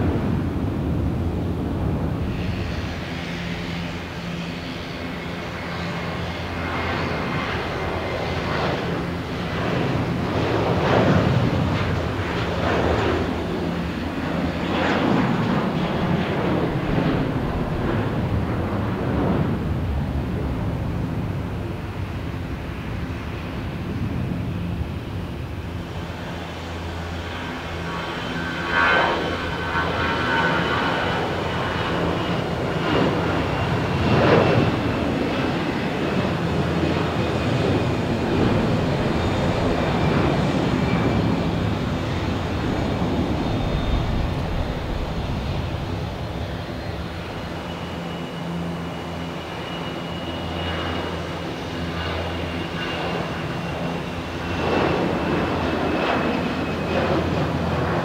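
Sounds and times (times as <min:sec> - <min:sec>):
jet engines roaring on takeoff: 0:00.0 - 0:58.0.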